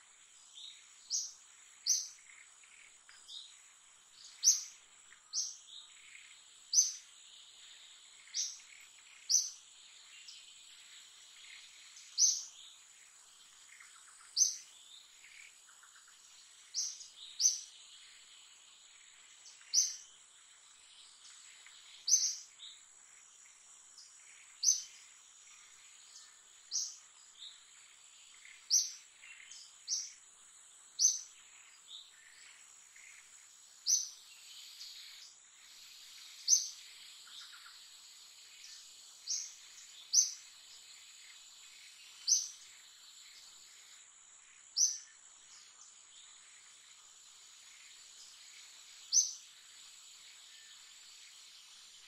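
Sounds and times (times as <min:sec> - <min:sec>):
bird chirping: 0:00.2 - 0:52.0.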